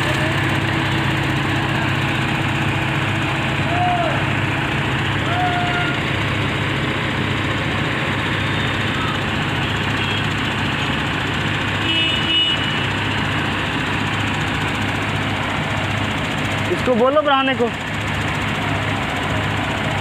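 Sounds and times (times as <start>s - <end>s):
heavy diesel crane engines: 0.0s - 20.0s.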